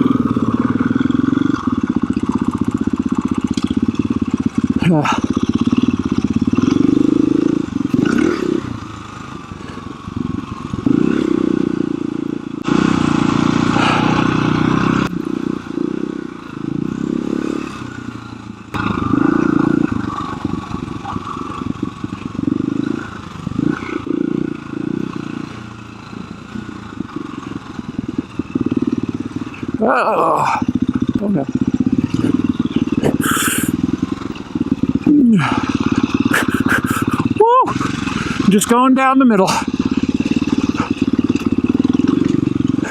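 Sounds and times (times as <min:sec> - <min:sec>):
dirt bike engine revving under load: 0:00.0 - 0:42.9.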